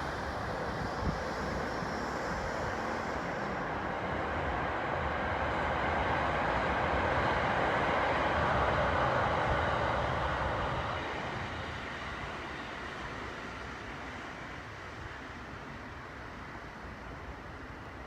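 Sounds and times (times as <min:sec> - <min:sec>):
train rumbling over steel bridge: 0:00.0 - 0:18.0.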